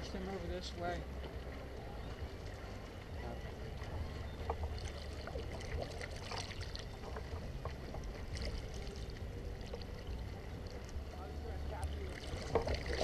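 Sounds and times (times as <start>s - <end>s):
water splashing around kayak: 0.0s - 13.0s
wind rumble on microphone: 0.0s - 13.0s.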